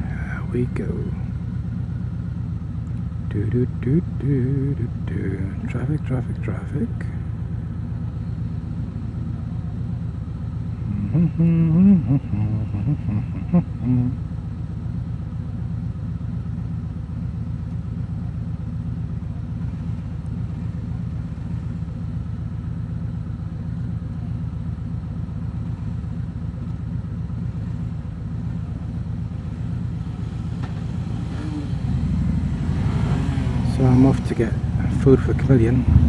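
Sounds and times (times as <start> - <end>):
motorcycle engine rumbling: 0.0 - 36.0.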